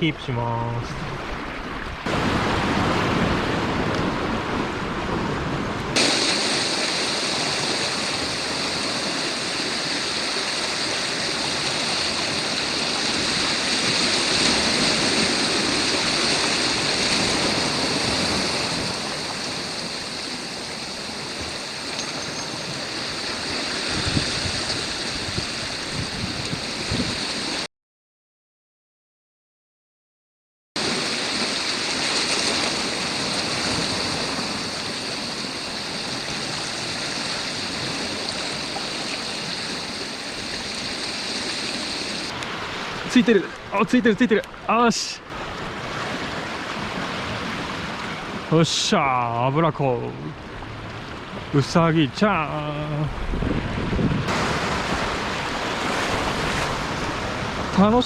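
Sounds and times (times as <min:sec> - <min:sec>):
surf washing over rocky shore: 0:00.1 - 0:27.6, 0:30.8 - 0:58.0.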